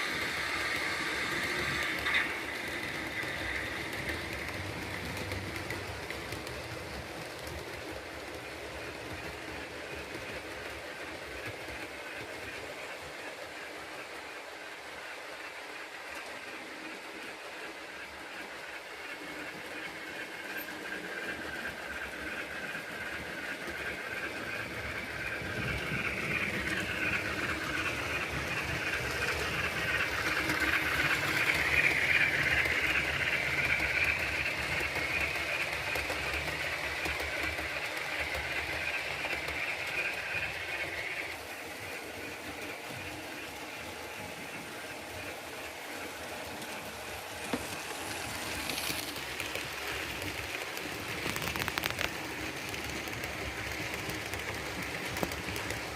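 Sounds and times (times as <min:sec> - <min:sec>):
model steam locomotive chuffing: 0:00.0 - 0:55.9
wheels rumbling on track: 0:00.0 - 0:55.9.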